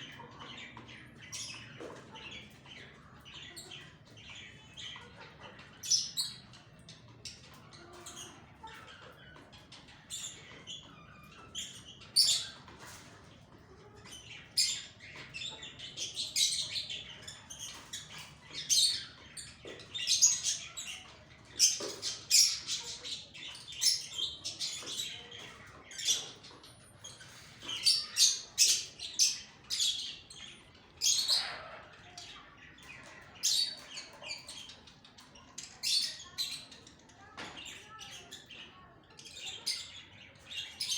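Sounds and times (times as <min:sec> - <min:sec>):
birds chirping and squawking: 0:00.0 - 0:40.9.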